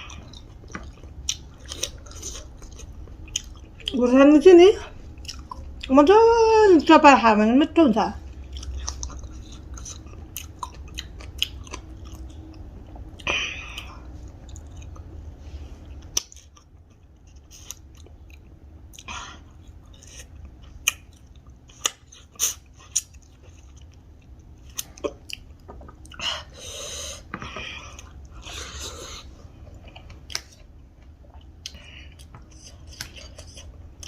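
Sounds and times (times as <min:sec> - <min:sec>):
person chewing food: 0:00.0 - 0:04.0, 0:04.8 - 0:05.9, 0:08.2 - 0:34.0.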